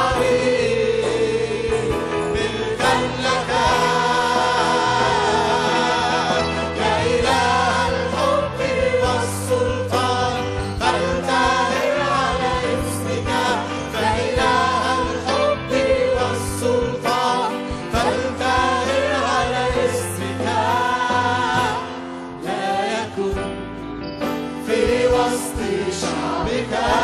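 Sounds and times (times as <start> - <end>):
congregation singing a hymn: 0.0 - 27.0.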